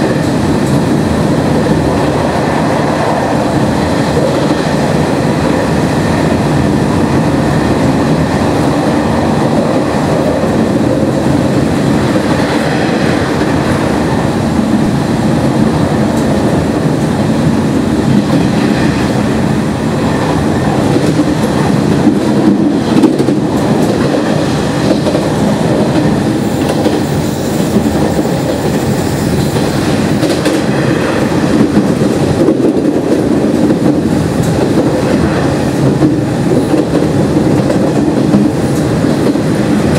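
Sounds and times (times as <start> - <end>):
rail joint clickety-clack: 0.0 - 39.9
train wheels rumbling on rail: 0.0 - 39.9.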